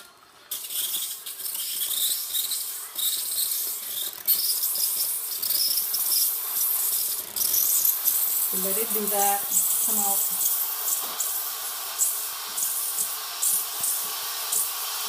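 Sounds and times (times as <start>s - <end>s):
steam wand hissing: 0.5s - 15.0s.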